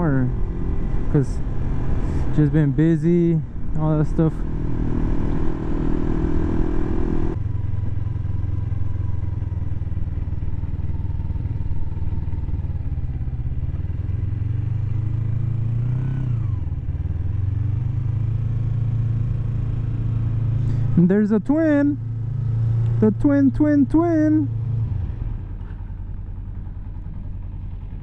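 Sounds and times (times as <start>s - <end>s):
motorcycle engine while riding: 0.0s - 28.0s.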